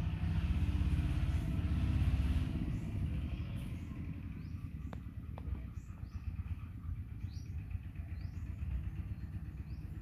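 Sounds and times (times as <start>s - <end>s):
passing vehicle engine rumble: 0.0s - 10.0s.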